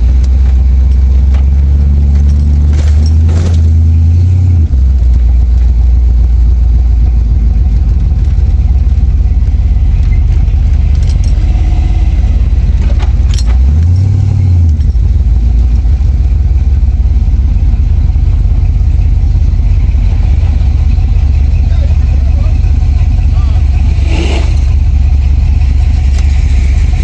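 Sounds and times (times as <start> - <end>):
car engine droning: 0.0 - 27.0
road noise: 0.0 - 27.0.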